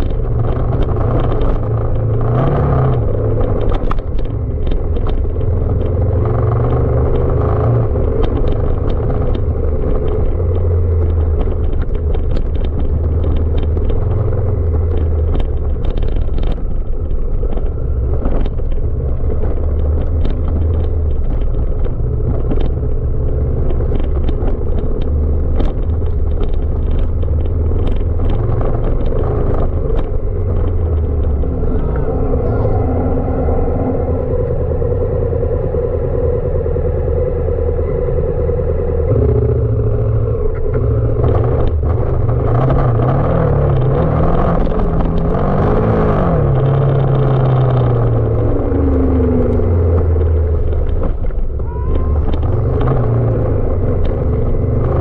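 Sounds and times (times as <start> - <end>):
motorcycle engine under load: 0.0 - 55.0.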